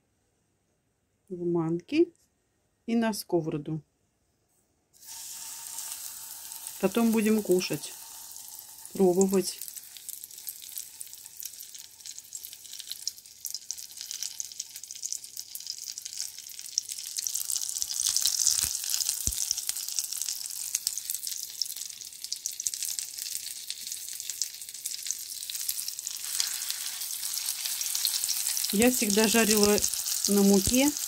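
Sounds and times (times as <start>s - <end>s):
liver sizzling in hot oil: 5.0s - 31.0s.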